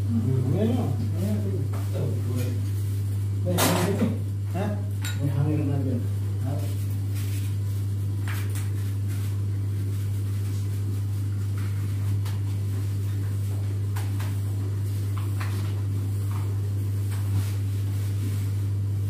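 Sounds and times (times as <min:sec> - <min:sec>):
air compressor motor humming: 0:00.0 - 0:19.0.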